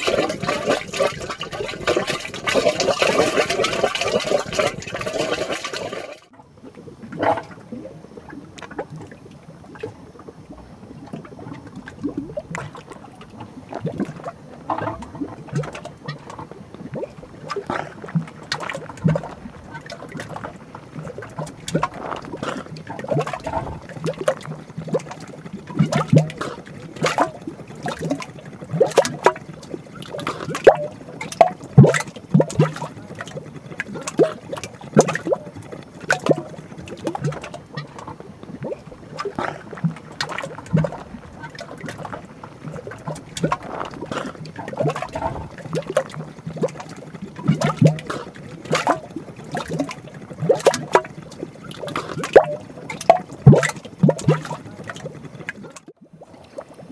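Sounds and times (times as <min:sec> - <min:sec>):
mud gurgling and popping: 0:00.0 - 0:56.9.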